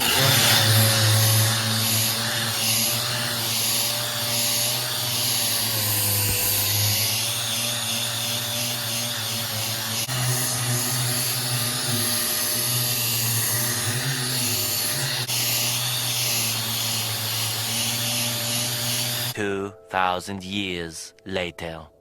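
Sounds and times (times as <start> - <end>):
electric sander on metal: 0.0 - 19.4.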